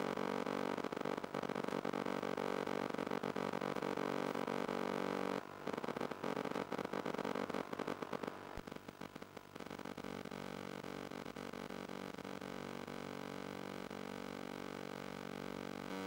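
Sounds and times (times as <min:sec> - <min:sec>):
electrical buzz with static: 0:00.0 - 0:16.0.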